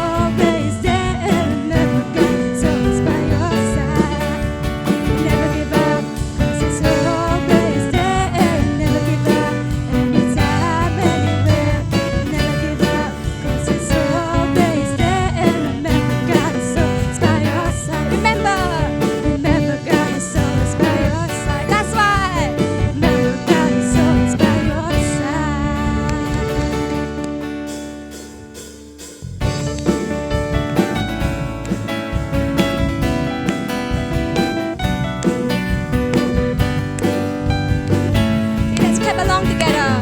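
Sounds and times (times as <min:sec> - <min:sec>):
worship song with band: 0:00.0 - 0:40.0.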